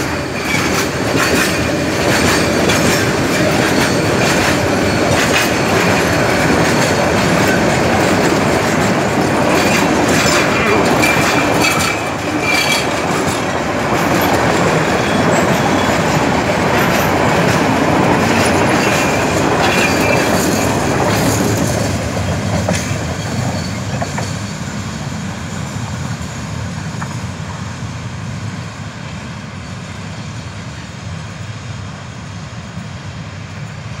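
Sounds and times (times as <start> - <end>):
train rumble: 0.0 - 34.0
train wheel squeal: 0.0 - 34.0
train wheels clattering on rails: 0.0 - 34.0.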